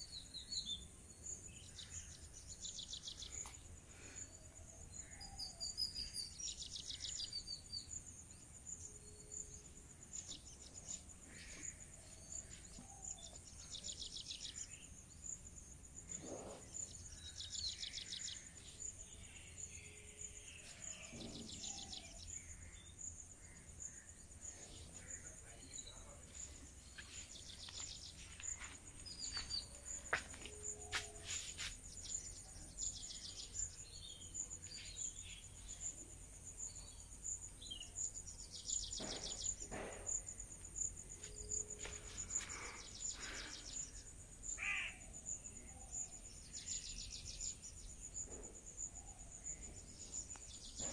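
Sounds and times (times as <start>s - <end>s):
insects chirring: 0.0s - 50.9s.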